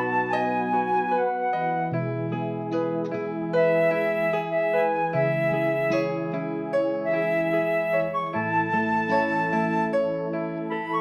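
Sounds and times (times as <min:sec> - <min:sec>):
soft piano-like melody: 0:00.0 - 0:11.0.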